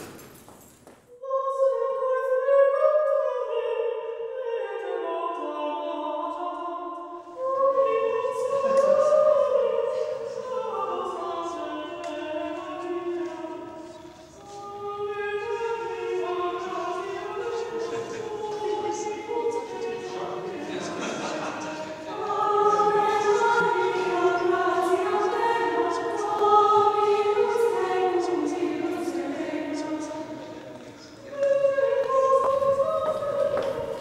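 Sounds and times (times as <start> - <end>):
choir singing long held notes: 1.1 - 34.0.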